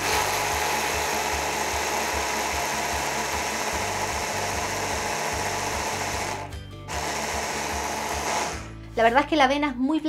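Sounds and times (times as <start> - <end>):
hand blender grinding oats: 0.0 - 8.7.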